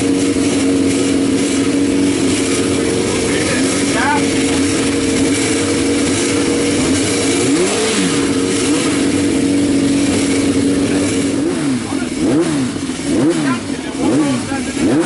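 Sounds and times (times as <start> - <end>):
motorcycle engine steady note: 0.0 - 15.0
motorcycle engines revving: 0.0 - 15.0.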